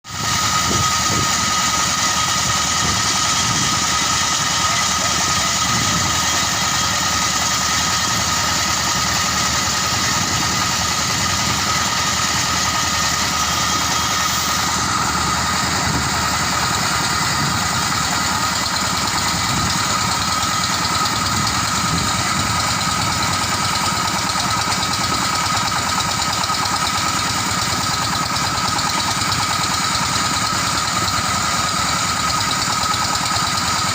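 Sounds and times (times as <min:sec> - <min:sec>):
rice thresher droning: 0:00.0 - 0:33.9.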